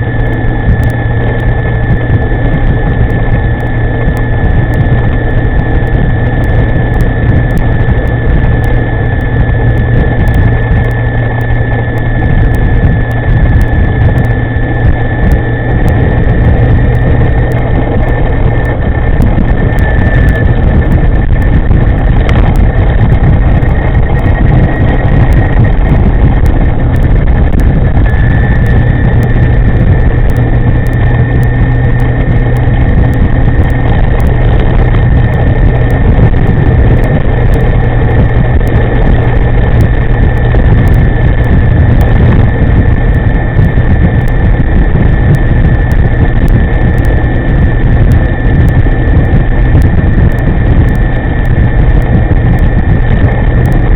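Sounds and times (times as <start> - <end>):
electric motor whine: 0.0 - 53.9
wind rumble on microphone: 0.0 - 53.9.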